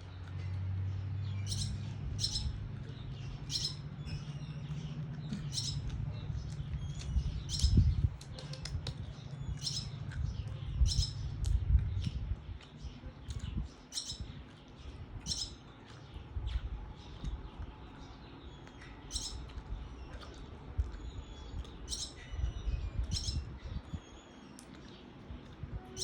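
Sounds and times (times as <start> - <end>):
bird chirping: 0.0 - 20.4, 21.0 - 25.1
low rumble: 0.0 - 24.0.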